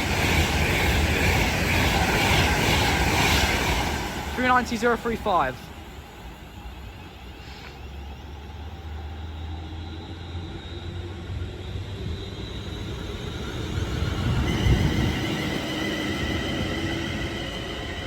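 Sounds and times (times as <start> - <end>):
electric train rumbling: 0.0 - 18.0
high-pitched train whine: 0.0 - 18.0.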